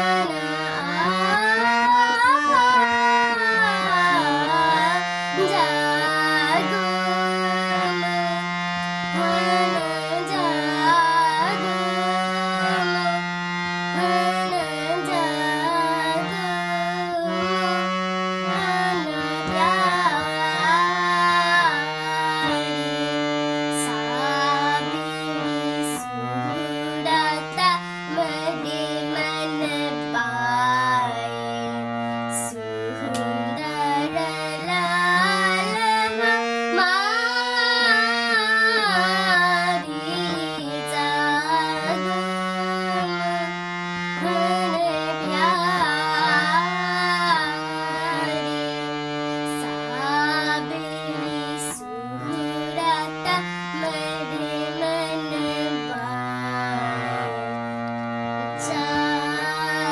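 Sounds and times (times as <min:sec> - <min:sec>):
girl singing: 0:00.0 - 0:57.6, 0:58.3 - 0:59.9
harmonium: 0:00.0 - 0:59.9.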